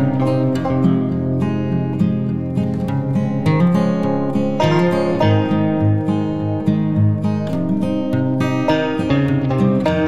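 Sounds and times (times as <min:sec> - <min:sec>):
plucked acoustic guitar music: 0:00.0 - 0:10.0.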